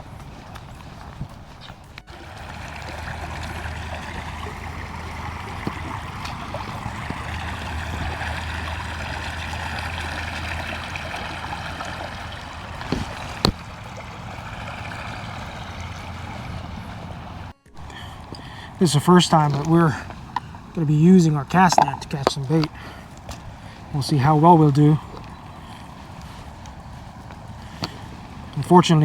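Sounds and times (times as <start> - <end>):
creek water running over rocks: 0.0 - 29.0.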